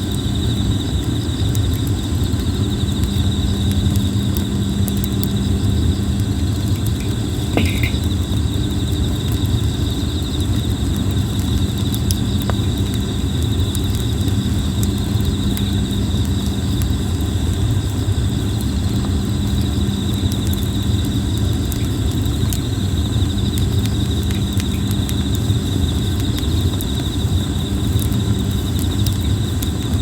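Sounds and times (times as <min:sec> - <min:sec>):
campfire crackling and popping: 0:00.0 - 0:30.0
insects trilling: 0:00.0 - 0:30.0.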